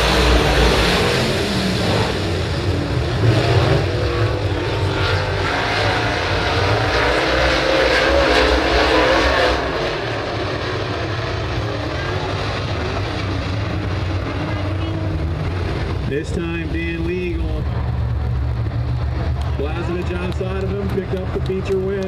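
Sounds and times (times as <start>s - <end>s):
race car engines: 0.0s - 22.0s.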